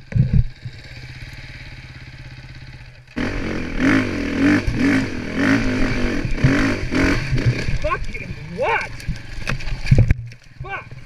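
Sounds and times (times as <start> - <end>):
dirt bike engine idling and revving: 0.0 - 9.9, 10.6 - 11.0.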